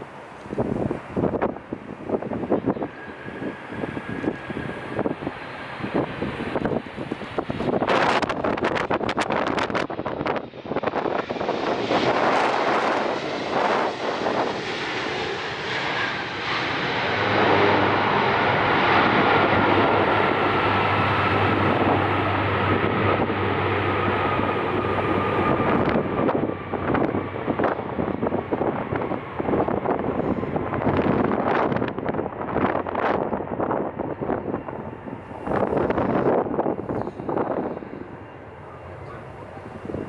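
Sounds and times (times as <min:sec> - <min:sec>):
airliner engine roar: 0:00.0 - 0:40.0
wind buffeting microphone: 0:00.0 - 0:40.0.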